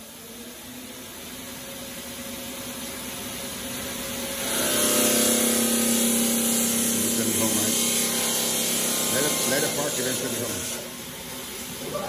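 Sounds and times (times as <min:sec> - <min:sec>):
saw motor hum with hiss: 0:00.0 - 0:12.0.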